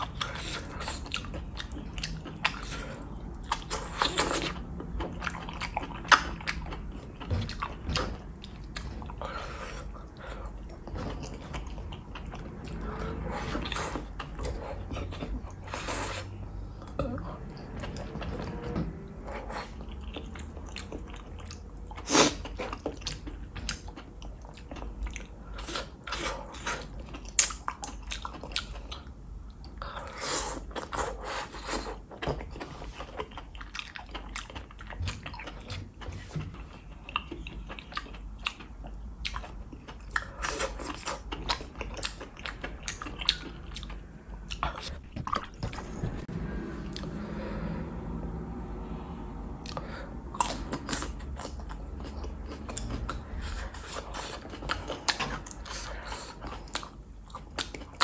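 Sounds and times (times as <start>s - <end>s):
chewing and lip smacking: 0.0s - 18.5s, 19.1s - 46.3s, 49.6s - 58.0s.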